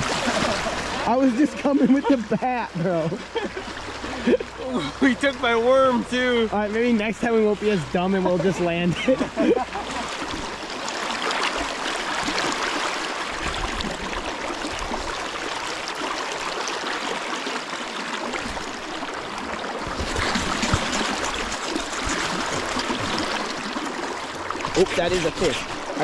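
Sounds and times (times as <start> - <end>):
river water rushing and gurgling: 0.0 - 26.0.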